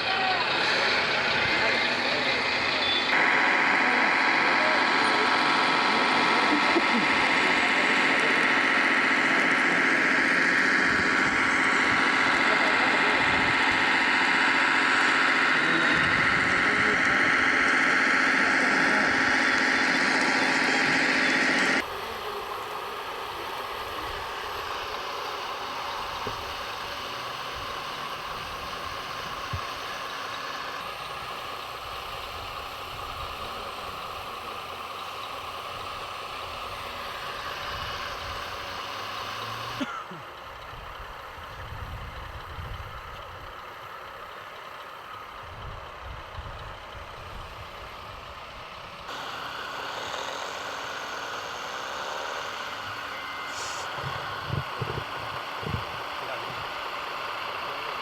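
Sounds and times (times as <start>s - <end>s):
small motors and gears whining: 0.0s - 58.0s.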